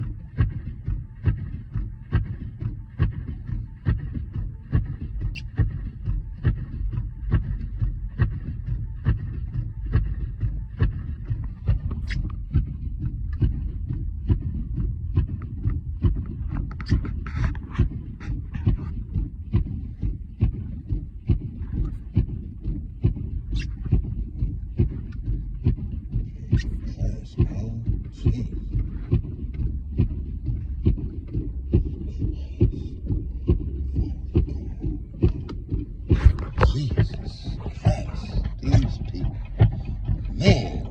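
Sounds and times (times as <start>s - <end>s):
regular thumping: 0.0s - 40.9s
vehicle engine and road rumble: 0.0s - 40.9s.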